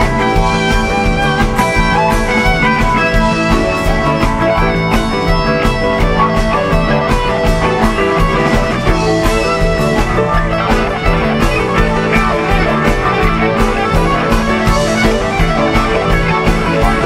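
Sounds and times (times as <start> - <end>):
live rock band jamming: 0.0 - 17.0.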